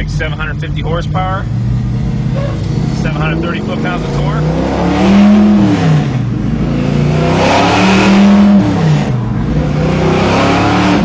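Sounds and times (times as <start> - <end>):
engine accelerating with gear change: 0.4 - 11.0.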